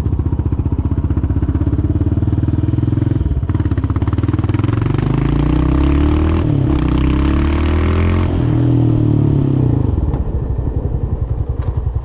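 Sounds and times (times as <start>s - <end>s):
atv engine accelerating: 0.0s - 12.0s.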